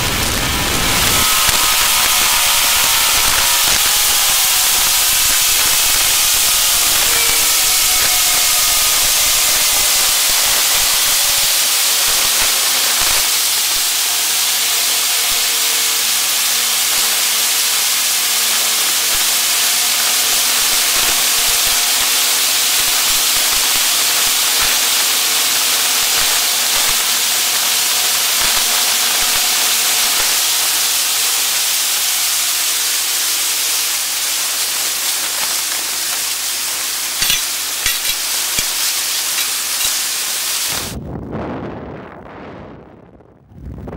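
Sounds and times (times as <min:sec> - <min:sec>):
wind and spray hissing: 0:00.0 - 0:41.0.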